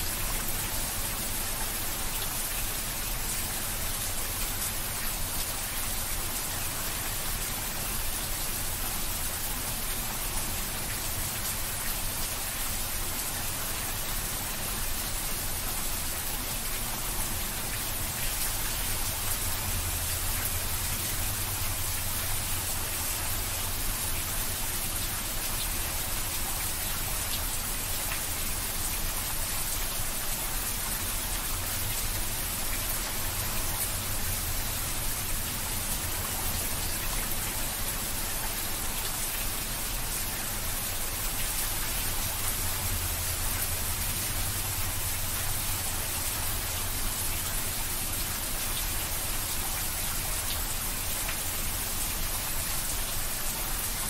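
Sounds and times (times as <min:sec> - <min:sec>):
heavy rain splashing into water: 0:00.0 - 0:54.0.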